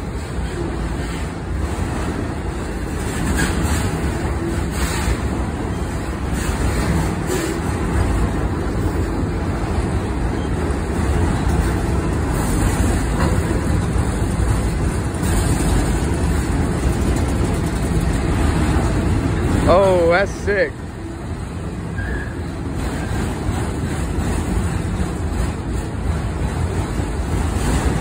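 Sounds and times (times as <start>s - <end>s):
steel wheels rumbling on rails: 0.0s - 28.0s.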